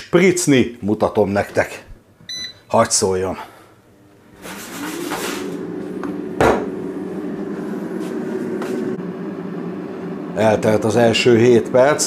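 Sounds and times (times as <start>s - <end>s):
air fryer fan hum: 2.1s - 12.0s.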